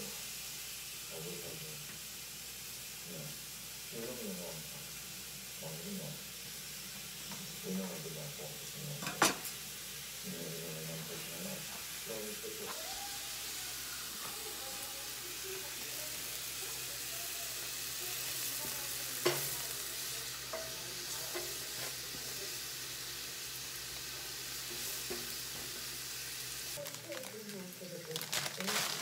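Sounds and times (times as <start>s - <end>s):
mushrooms sizzling in a frying pan: 0.0s - 29.0s.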